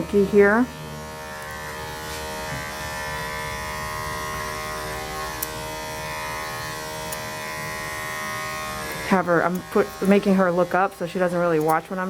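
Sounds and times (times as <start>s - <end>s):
electric trimmer buzzing: 0.0s - 12.0s.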